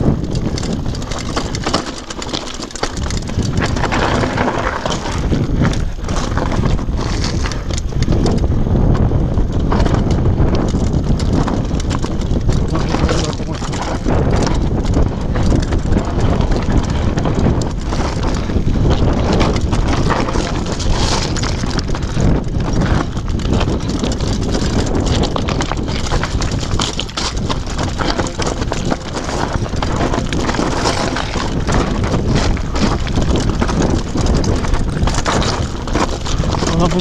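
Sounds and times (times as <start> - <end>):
bike rattling: 0.0 - 37.0
tyres crunching on stones: 0.0 - 37.0
wind buffeting microphone: 0.0 - 37.0.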